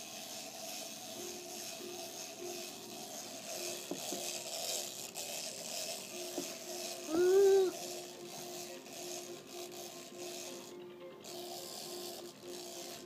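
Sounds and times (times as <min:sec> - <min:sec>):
clockwork toy mechanism whirring: 0:00.0 - 0:13.0.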